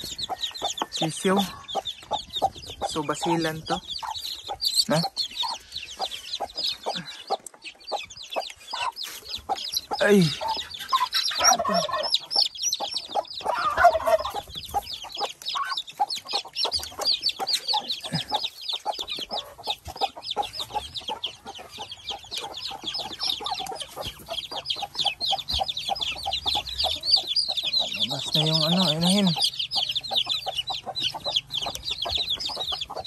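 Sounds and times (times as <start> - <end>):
chicks peeping: 0.0 - 33.0
hen clucking: 0.0 - 33.0
scuffling among birds: 0.0 - 33.0.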